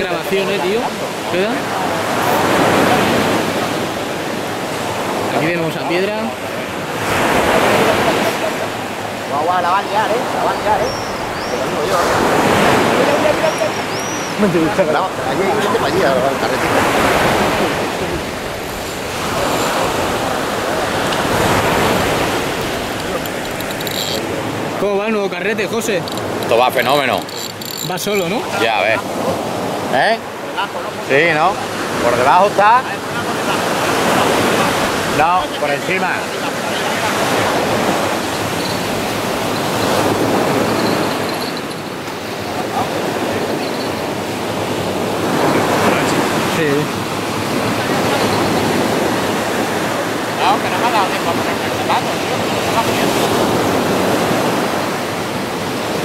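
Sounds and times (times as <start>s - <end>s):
surf breaking on a beach: 0.0s - 56.0s.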